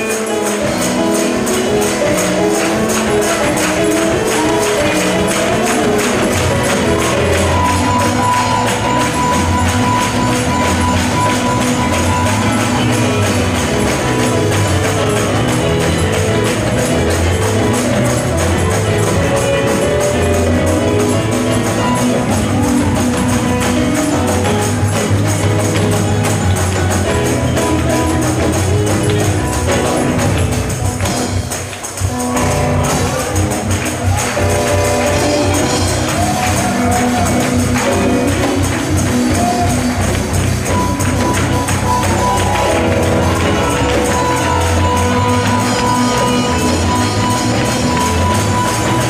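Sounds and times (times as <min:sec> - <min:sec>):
bass: 0:00.0 - 0:49.0
congregation clapping: 0:00.0 - 0:49.0
sustained instrumental notes: 0:00.0 - 0:49.0
tambourine shaken: 0:00.0 - 0:49.0.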